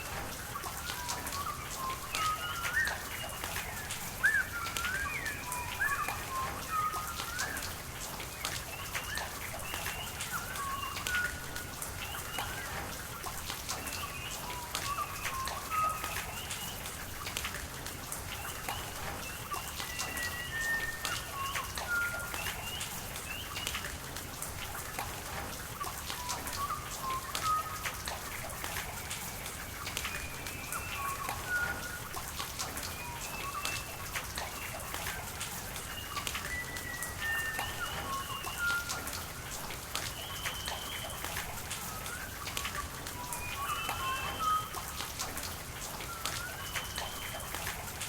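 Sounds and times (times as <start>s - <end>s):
rain drops pattering: 0.0s - 48.0s
rushing water: 0.0s - 48.0s
birds chirping and whistling: 0.4s - 12.9s, 13.7s - 17.0s, 18.4s - 23.8s, 26.2s - 48.0s.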